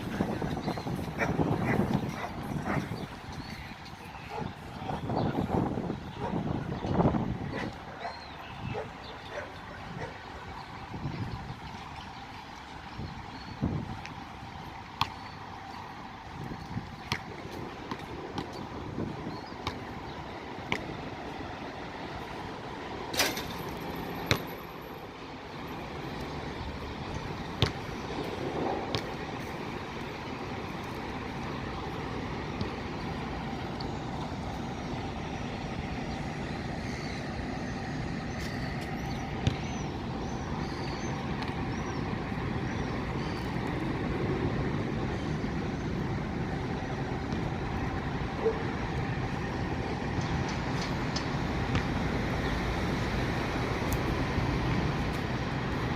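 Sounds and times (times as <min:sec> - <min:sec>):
city traffic noise: 0:00.0 - 0:55.9.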